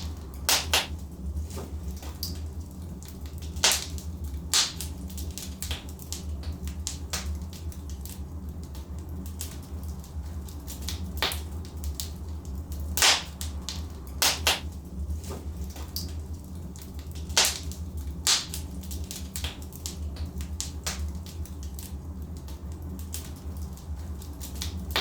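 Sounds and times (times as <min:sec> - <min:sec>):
logs crackling and popping: 0:00.0 - 0:25.0
low rumble of fire: 0:00.0 - 0:25.0.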